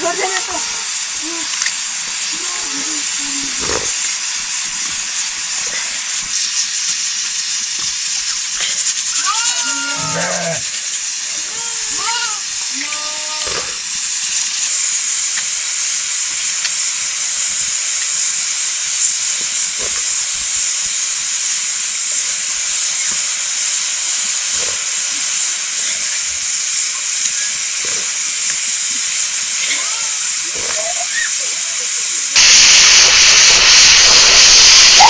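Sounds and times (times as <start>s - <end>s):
steady high hiss: 0.0s - 35.0s.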